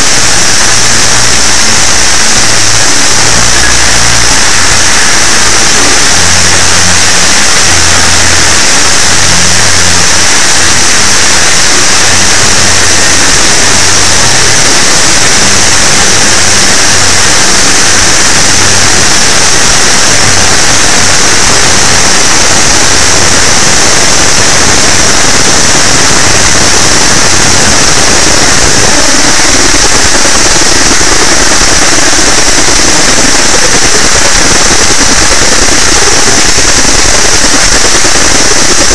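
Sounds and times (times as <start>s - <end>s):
choppy low tones: 0.0s - 38.9s
harsh distorted noise: 0.0s - 38.9s.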